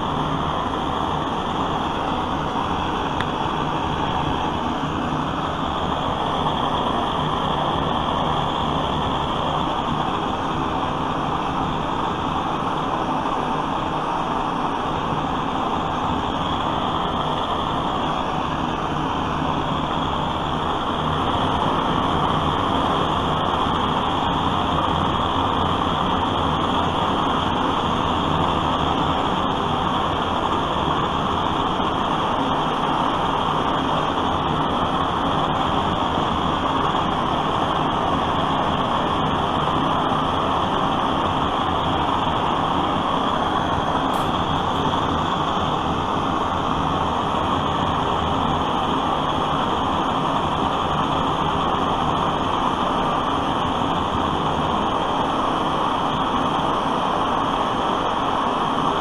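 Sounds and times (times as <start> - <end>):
blowtorch flame rushing: 0.0 - 59.0.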